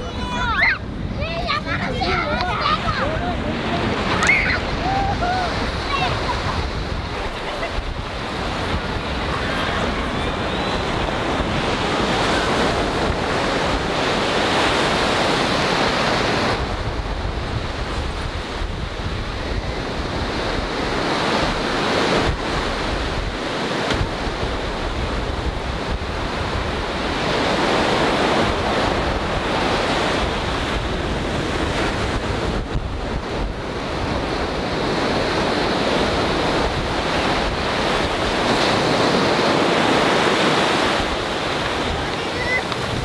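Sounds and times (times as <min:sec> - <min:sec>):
wind rumbling on microphone: 0:00.0 - 0:43.0
small surf washing on sand: 0:01.2 - 0:43.0.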